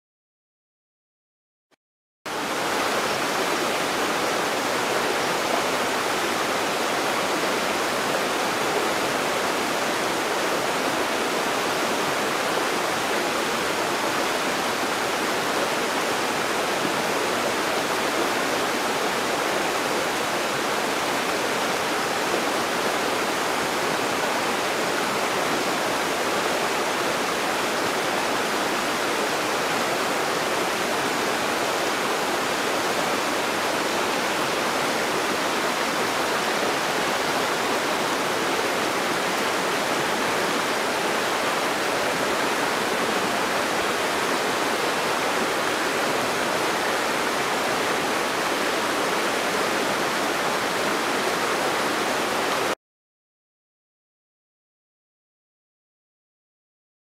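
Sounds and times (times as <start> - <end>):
stream water rushing: 2.3 - 52.8.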